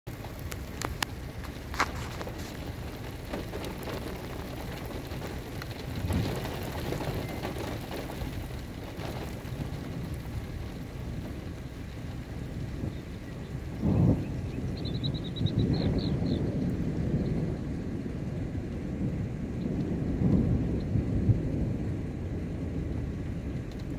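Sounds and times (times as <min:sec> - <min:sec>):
low thunder rumble: 0:00.1 - 0:23.9
rain hissing: 0:00.1 - 0:23.9.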